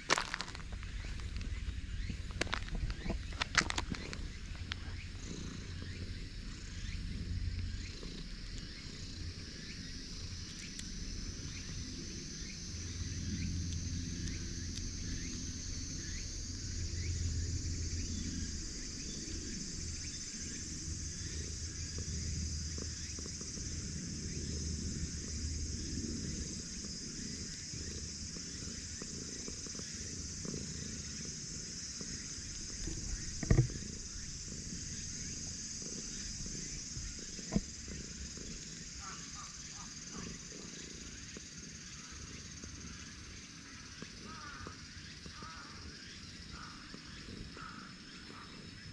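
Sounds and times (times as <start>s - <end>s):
cat purring: 0.6s - 12.2s, 18.1s - 48.9s.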